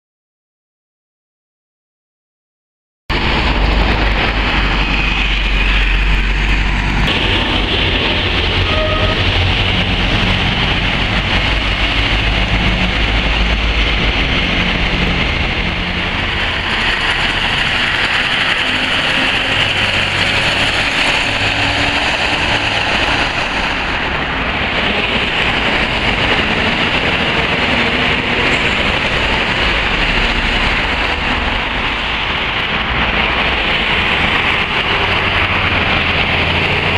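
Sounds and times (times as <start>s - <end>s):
tyres hissing on wet road: 3.1s - 36.9s
vehicle engines rumbling: 3.1s - 36.9s.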